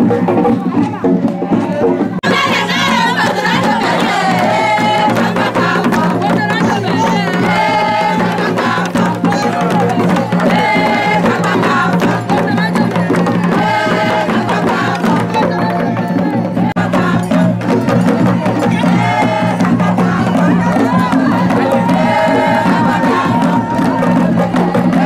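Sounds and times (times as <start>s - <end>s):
crowd singing: 0.0s - 25.0s
drums and clattering percussion: 0.0s - 25.0s.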